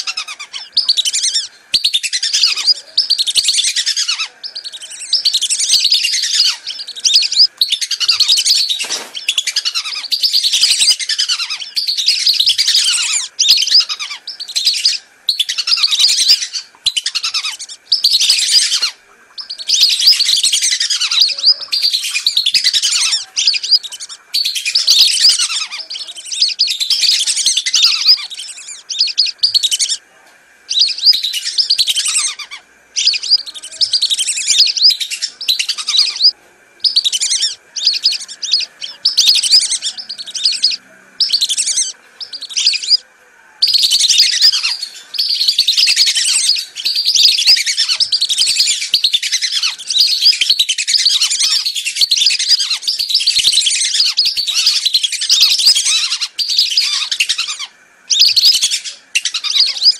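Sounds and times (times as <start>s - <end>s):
whistling ducks calling: 0.0s - 59.9s.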